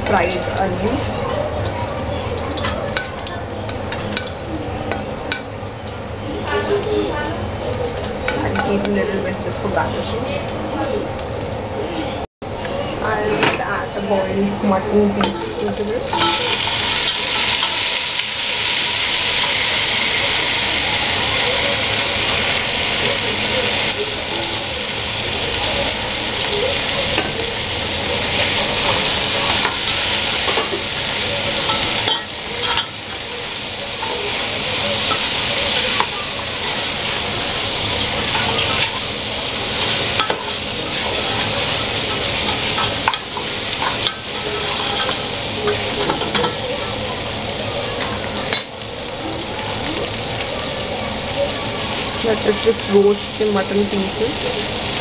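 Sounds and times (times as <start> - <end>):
meat sizzling in hot fat: 0.0 - 13.3, 13.9 - 55.0.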